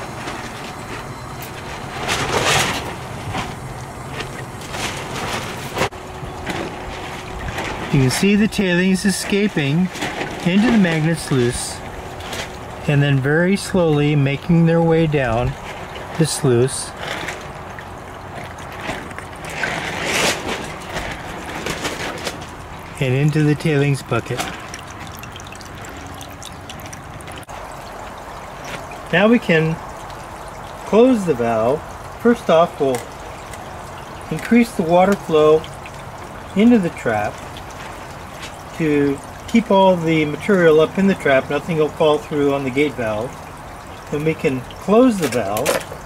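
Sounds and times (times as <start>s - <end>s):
water running and splashing: 0.0s - 46.0s.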